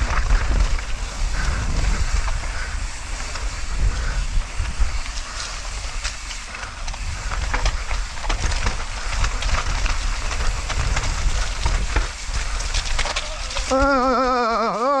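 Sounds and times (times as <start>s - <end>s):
wind rumble on microphone: 0.0s - 14.5s
mountain bike rattling: 0.0s - 15.0s
tyre noise: 0.0s - 15.0s.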